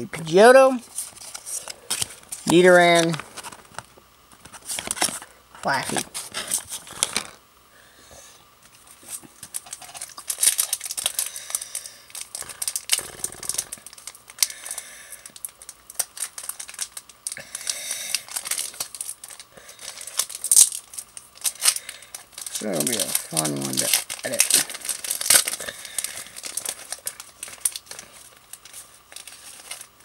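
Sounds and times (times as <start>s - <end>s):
packaging crinkling and tearing: 0.8s - 7.4s, 8.8s - 30.0s.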